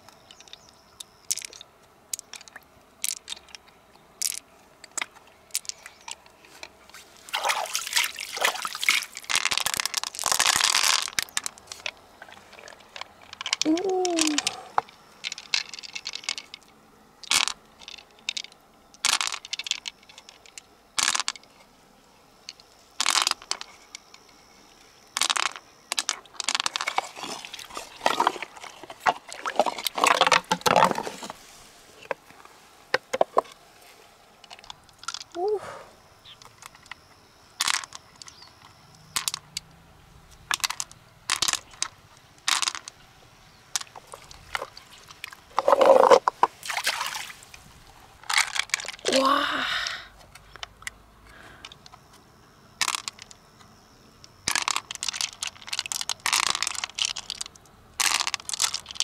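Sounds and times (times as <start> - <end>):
mussel shells clicking and crunching: 0.0 - 6.8, 7.4 - 21.5, 22.4 - 31.4, 34.4 - 35.4, 36.2 - 47.3, 48.2 - 59.0.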